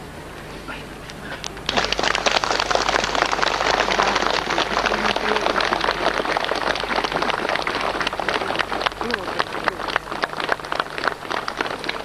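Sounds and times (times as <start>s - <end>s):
crowd applauding: 1.7s - 12.0s.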